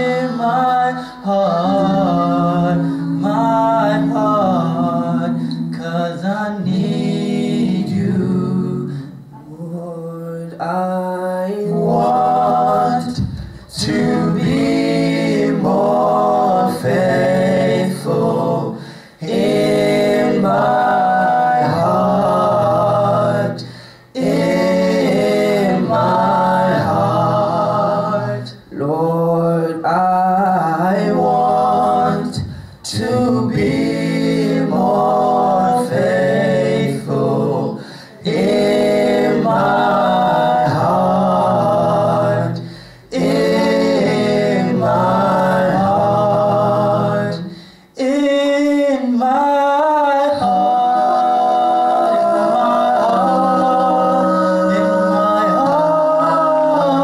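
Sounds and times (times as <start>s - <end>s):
voices singing a worship song: 0.0s - 57.0s.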